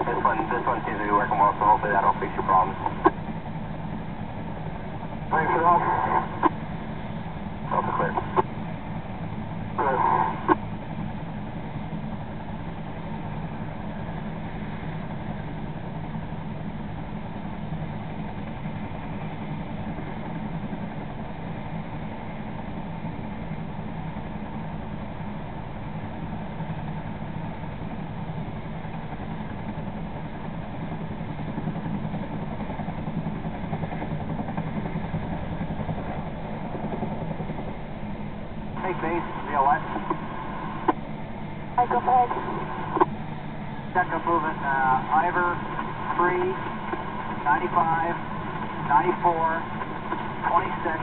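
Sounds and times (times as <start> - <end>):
helicopter engine drone: 0.0 - 51.0.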